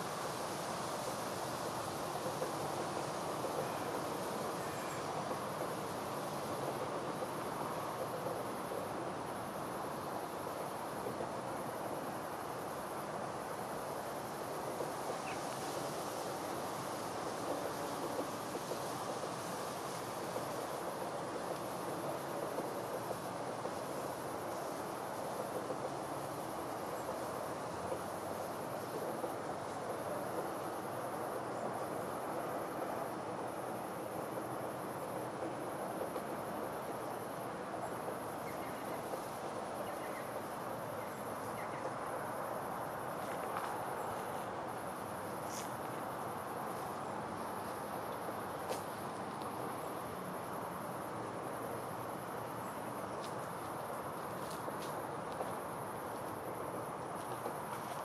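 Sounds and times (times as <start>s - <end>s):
insects trilling: 0.0s - 58.0s
low rushing background noise: 0.0s - 58.0s.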